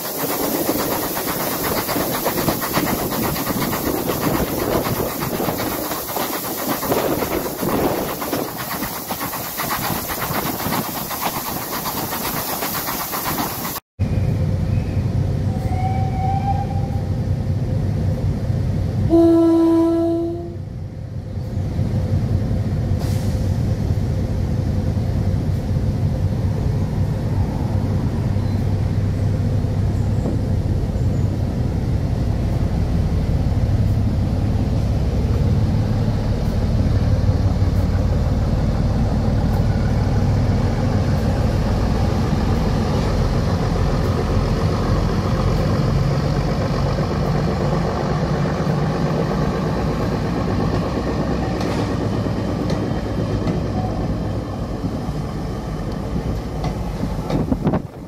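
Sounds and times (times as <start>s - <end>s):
diesel locomotive engine rumbling: 0.0s - 58.0s
train coaches rolling on track: 0.0s - 58.0s.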